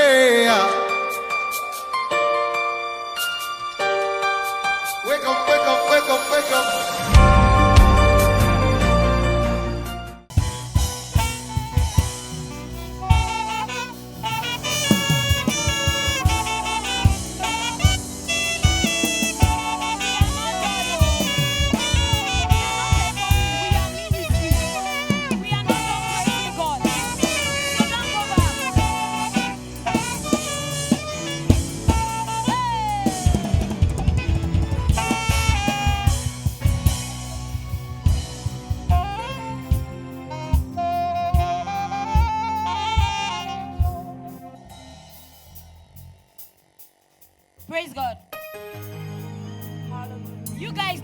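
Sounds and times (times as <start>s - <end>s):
saxophone melody: 0.0s - 45.2s
drum kit beat: 7.2s - 9.2s, 10.3s - 51.0s.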